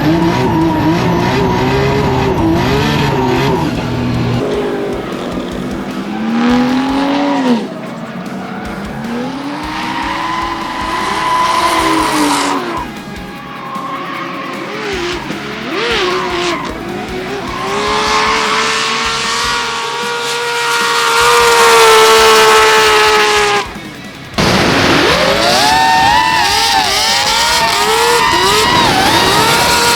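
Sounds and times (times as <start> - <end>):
car engine revving hard: 0.0 - 29.9
tyres squealing: 0.0 - 29.9.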